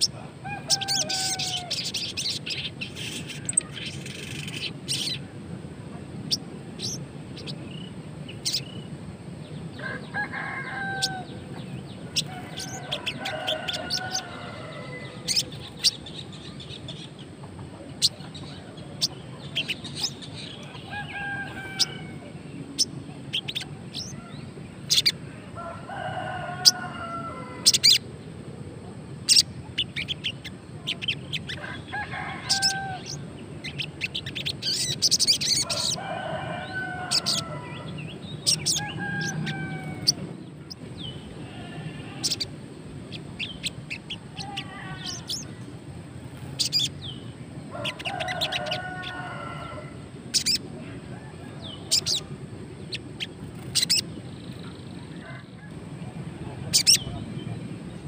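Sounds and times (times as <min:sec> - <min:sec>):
roosters crowing: 0:00.0 - 0:05.4, 0:09.5 - 0:17.0, 0:17.6 - 0:28.3, 0:30.9 - 0:58.0.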